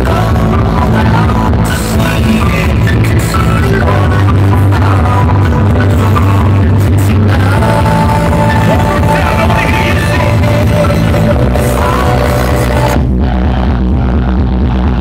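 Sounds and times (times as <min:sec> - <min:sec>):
loud club music with heavy bass: 0:00.0 - 0:15.0.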